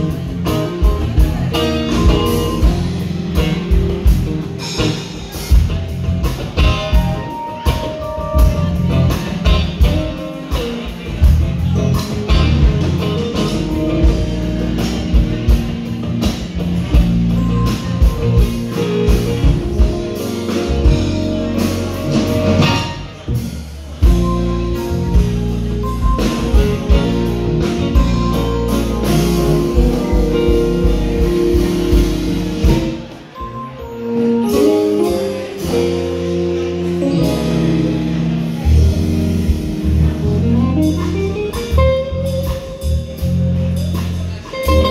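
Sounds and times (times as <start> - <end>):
drum kit beat: 0.0 - 44.9
electric guitar: 0.0 - 44.9.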